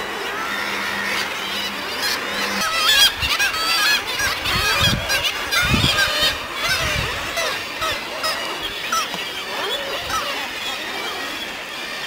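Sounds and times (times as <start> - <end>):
seabirds calling: 0.0 - 12.0.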